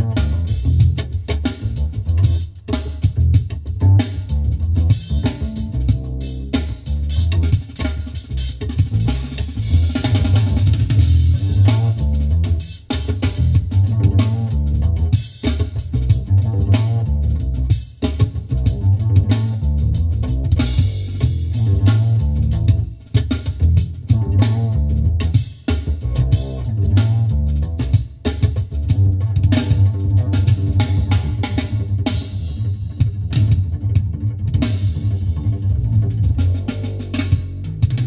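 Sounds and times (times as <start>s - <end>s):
bass guitar: 0.0s - 38.0s
drum kit: 0.0s - 38.0s.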